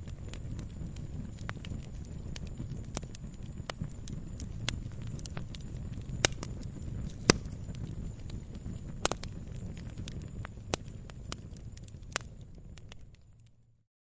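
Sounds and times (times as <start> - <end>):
firewood crackling and popping: 0.0 - 13.8
low rumble of flames: 0.0 - 13.8.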